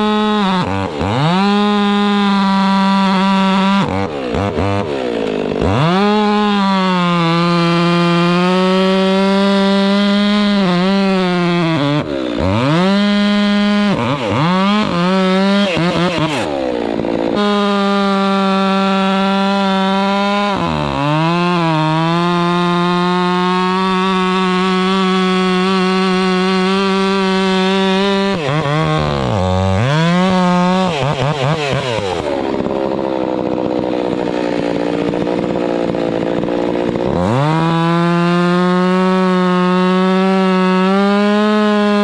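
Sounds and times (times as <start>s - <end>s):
chainsaw running at high revs: 0.0s - 42.0s.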